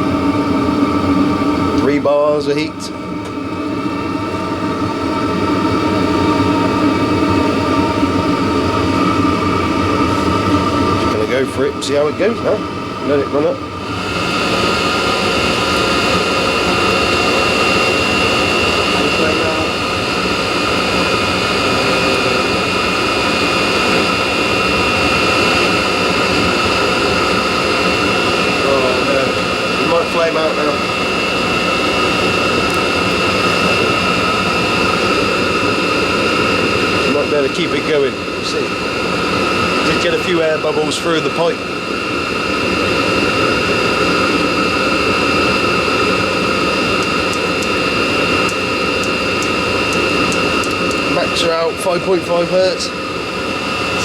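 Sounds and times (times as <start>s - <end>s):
fan whine: 0.0s - 54.0s
heater combustion rush: 0.0s - 54.0s.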